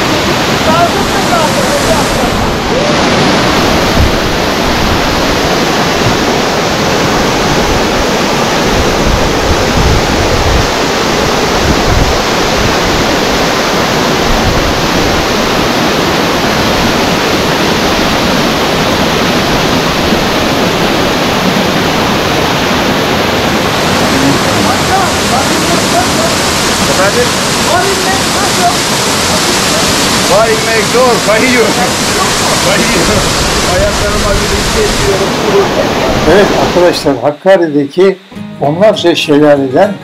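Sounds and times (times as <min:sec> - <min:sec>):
waterfall rushing: 0:00.0 - 0:37.4.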